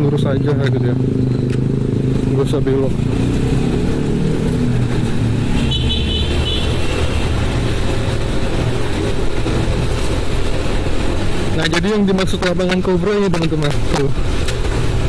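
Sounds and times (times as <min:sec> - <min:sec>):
motorcycle engine running: 0:00.0 - 0:15.0
road and wind rumble: 0:00.0 - 0:15.0.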